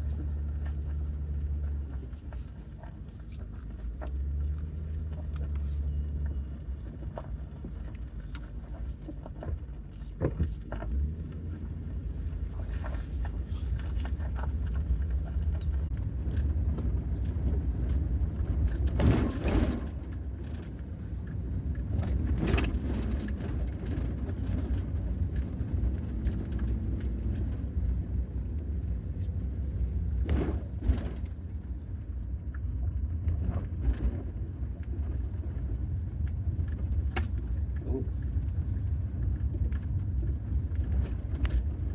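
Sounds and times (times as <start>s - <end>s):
van road and engine rumble: 0.0s - 41.9s.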